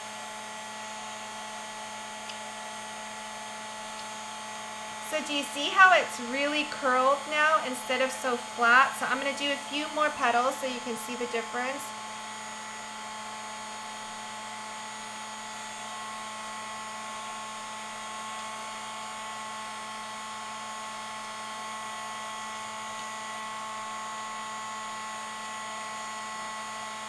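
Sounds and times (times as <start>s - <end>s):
heat tool fan whine: 0.0s - 27.0s.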